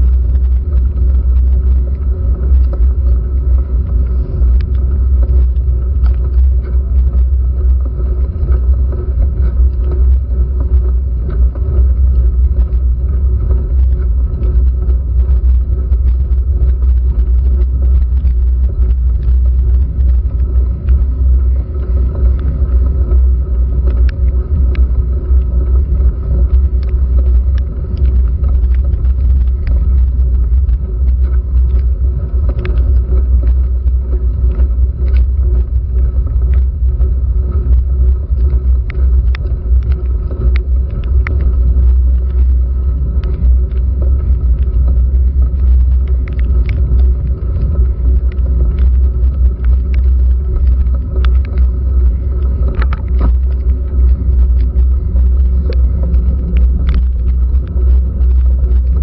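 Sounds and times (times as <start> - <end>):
raindrops ticking on camera housing: 0.0 - 59.0
road vibration and wind rumble: 0.0 - 59.0.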